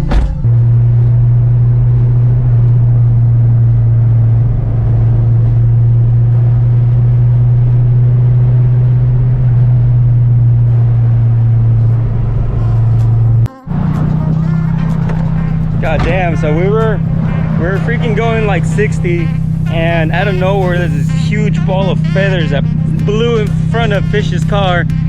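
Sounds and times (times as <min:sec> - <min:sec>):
car engine droning at cruise: 0:00.0 - 0:25.0.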